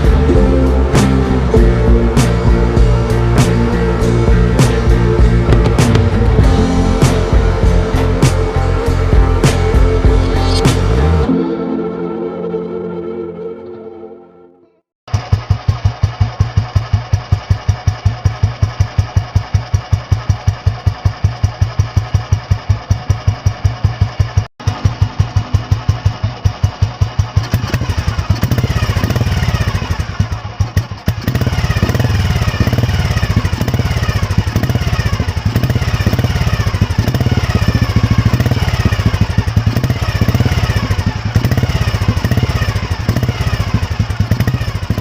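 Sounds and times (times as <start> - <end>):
motorcycle engine thumping: 0.0 - 10.9, 15.1 - 45.0.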